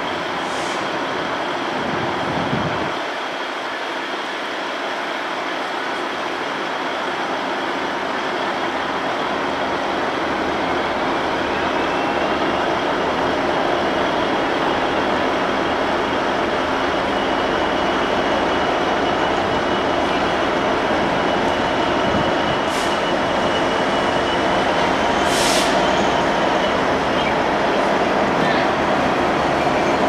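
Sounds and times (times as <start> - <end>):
diesel locomotive engine running: 0.0 - 30.0.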